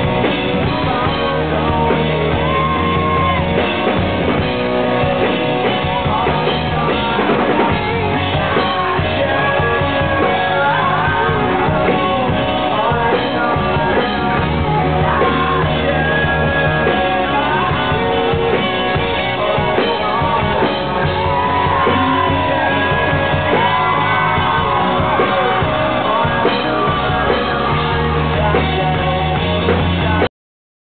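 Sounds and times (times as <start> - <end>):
drums: 0.0 - 30.3
electric bass: 0.0 - 30.3
keyboard: 0.0 - 30.3
man singing lead vocal: 0.0 - 30.3.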